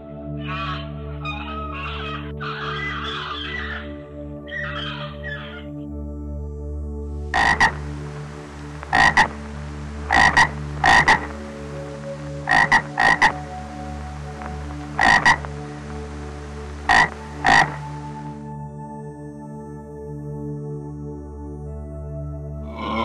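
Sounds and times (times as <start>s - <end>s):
steady musical drone: 0.0s - 23.0s.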